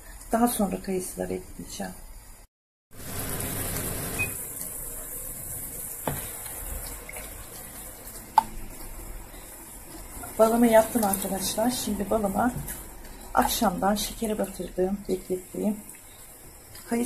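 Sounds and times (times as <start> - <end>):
syrup boiling in a pot: 2.2 - 17.0.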